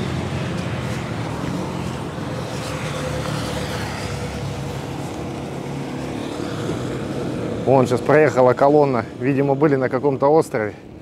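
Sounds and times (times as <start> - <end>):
motorcycle engines passing: 0.0 - 11.0.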